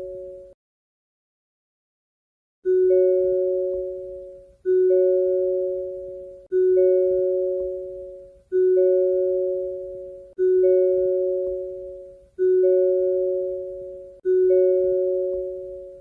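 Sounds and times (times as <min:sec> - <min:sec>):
two-note electronic chime: 0:02.7 - 0:16.0.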